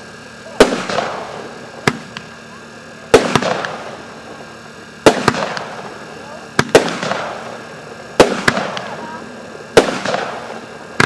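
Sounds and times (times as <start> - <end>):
firework crackling: 0.0 - 11.0
firework bangs: 0.5 - 11.0.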